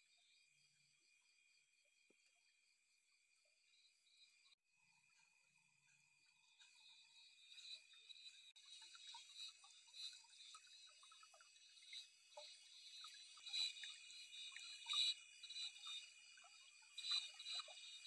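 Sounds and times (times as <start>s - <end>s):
frogs and insects trilling: 0.0s - 18.0s.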